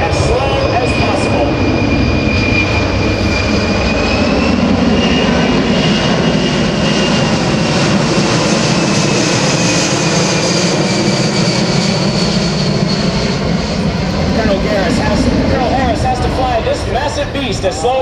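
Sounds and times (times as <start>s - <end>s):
high engine whine: 0.0s - 18.0s
jet engines roaring: 0.0s - 18.0s.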